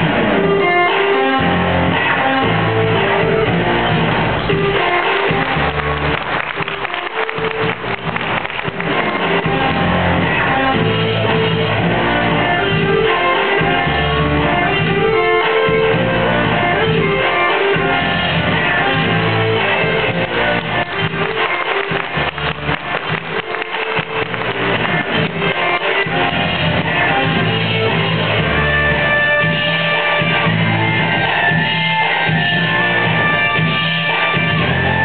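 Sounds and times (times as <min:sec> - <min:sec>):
guitar rock music: 0:00.0 - 0:35.0.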